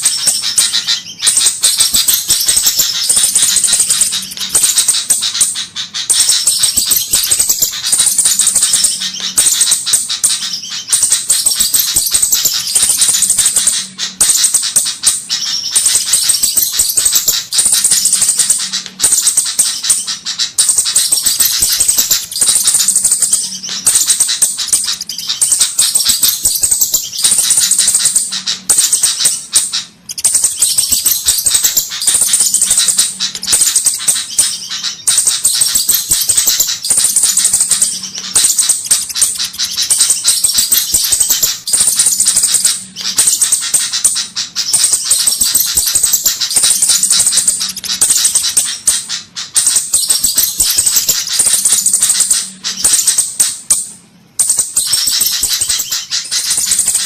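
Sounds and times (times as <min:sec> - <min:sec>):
bird rapid ticking calls: 0:00.0 - 0:57.0.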